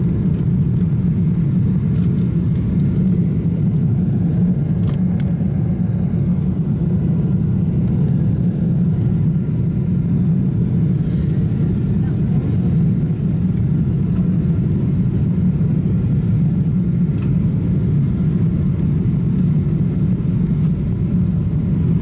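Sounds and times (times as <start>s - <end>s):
jet engines and airflow: 0.0s - 22.0s.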